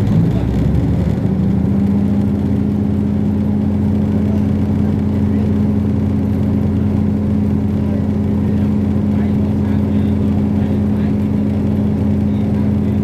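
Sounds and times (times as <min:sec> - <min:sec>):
train engine drone: 0:00.0 - 0:13.0.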